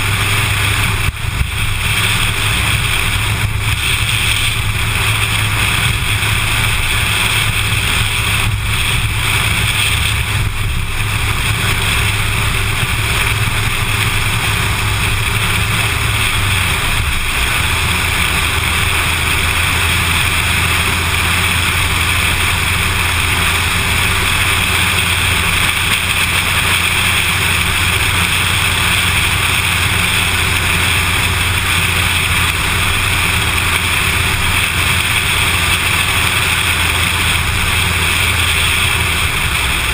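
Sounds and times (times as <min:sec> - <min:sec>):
car engine and tyre rumble: 0:00.0 - 0:39.9
wind noise: 0:00.0 - 0:39.9.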